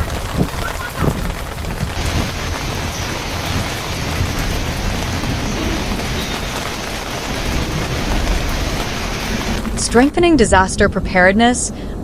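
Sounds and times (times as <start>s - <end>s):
heavy rain pouring: 0.0s - 10.9s
low rumble: 1.2s - 12.0s.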